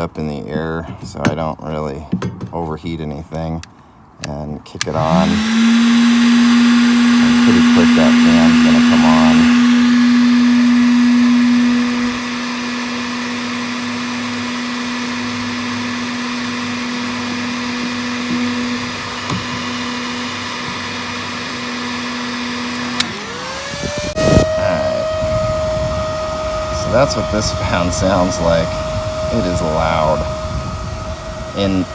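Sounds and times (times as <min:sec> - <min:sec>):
cooling fan whining: 0:02.6 - 0:31.9
heat gun blowing: 0:04.8 - 0:31.9.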